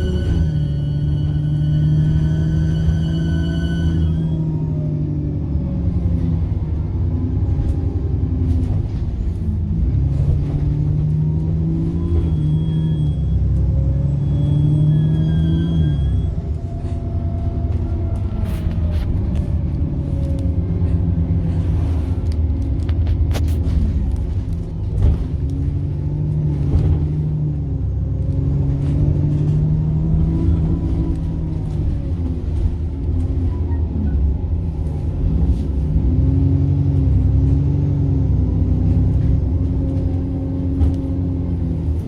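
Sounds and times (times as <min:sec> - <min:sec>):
bus diesel engine pulling: 0:00.0 - 0:42.0.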